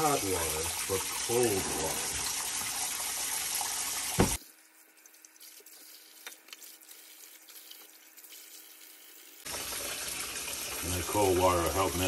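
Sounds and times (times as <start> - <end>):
faucet running into sink: 0.0 - 4.4, 5.0 - 12.0.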